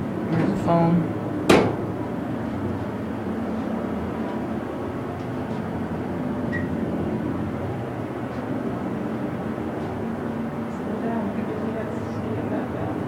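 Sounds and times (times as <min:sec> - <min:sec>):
elevator low hum: 0:00.0 - 0:13.0.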